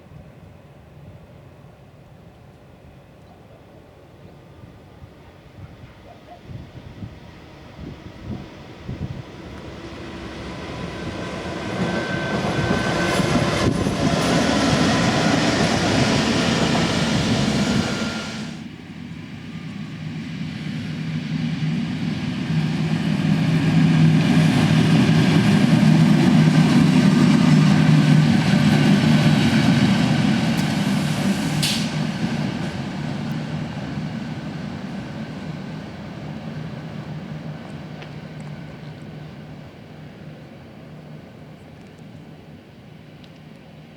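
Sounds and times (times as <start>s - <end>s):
train passing on tracks: 0.0s - 43.9s.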